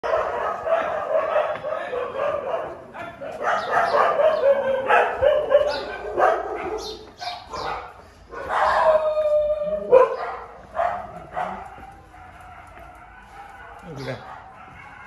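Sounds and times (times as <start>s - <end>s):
dog drawn-out cry: 0.0s - 15.0s
dogs barking: 0.0s - 15.0s.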